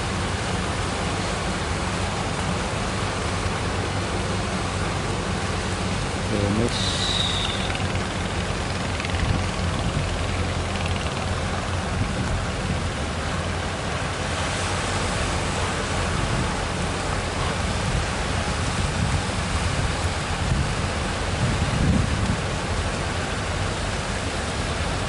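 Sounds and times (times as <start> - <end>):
sea waves breaking on beach: 0.0 - 25.0.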